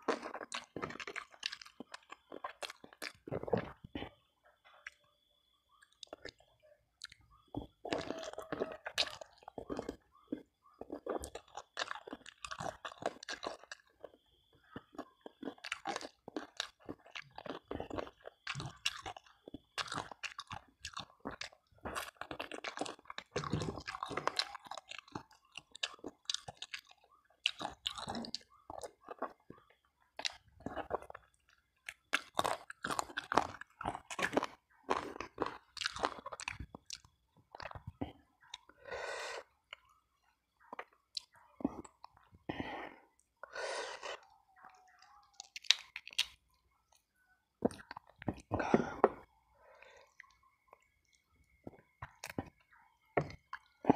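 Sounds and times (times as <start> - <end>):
wet chewing and crunchy bites: 0.0 - 53.9.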